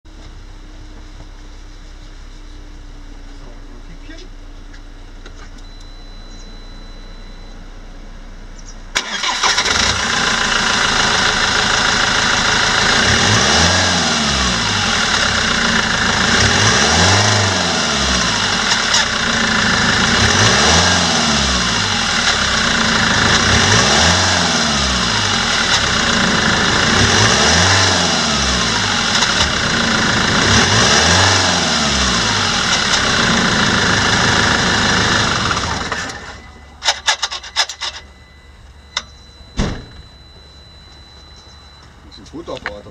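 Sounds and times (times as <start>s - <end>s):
diesel engine starting and idling: 0.2s - 42.9s.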